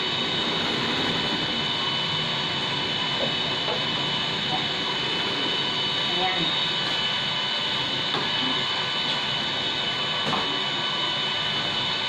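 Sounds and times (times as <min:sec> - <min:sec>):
bakery machinery running: 0:00.0 - 0:12.0
high whine: 0:00.0 - 0:12.0.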